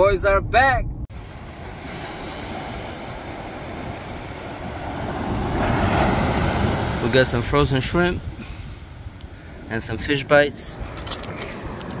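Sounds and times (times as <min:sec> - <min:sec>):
ocean surf washing ashore: 0:01.1 - 0:12.0.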